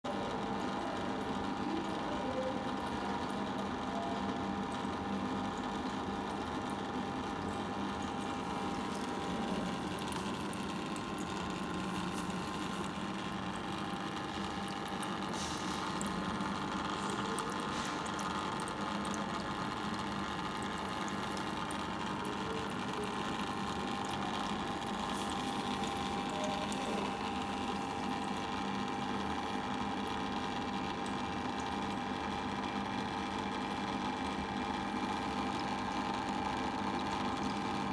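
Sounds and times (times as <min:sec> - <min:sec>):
filter motor hum: 0:00.1 - 0:37.9
water pouring into tank: 0:04.3 - 0:37.9.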